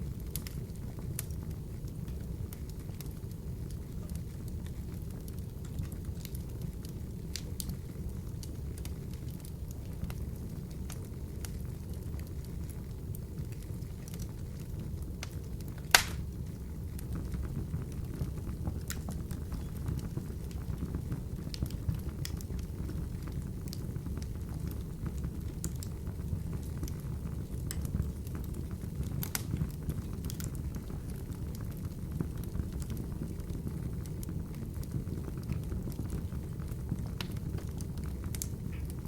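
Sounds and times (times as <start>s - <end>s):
fire flames rumbling: 0.0s - 39.0s
logs crackling and popping: 0.0s - 39.0s.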